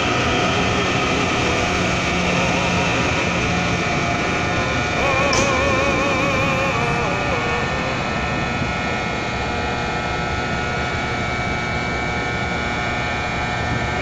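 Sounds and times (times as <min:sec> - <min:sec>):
electric train running with whine: 0:00.0 - 0:14.0.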